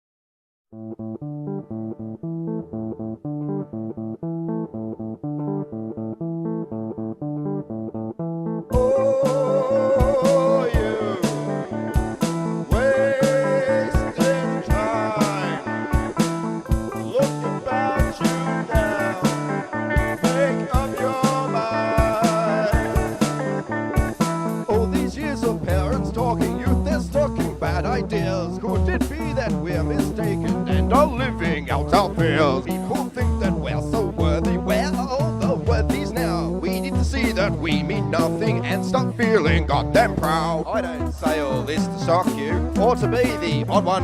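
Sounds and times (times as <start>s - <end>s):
plucked guitar riff: 0.7s - 44.0s
instrumental rock music: 0.8s - 44.0s.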